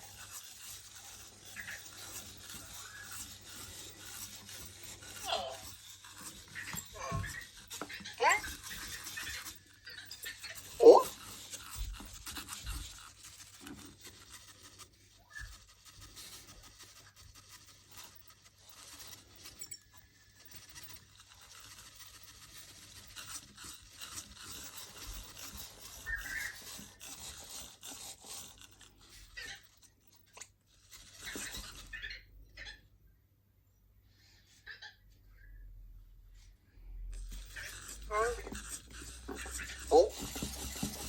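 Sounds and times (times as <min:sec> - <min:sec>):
faint scraping and clicking: 0:00.0 - 0:41.0.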